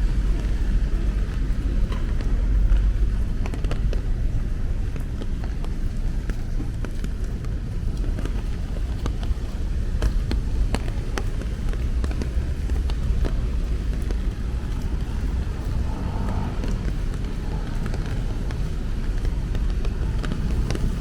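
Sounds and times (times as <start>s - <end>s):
raindrops tapping: 0.0s - 21.0s
steady low rumble: 0.0s - 21.0s.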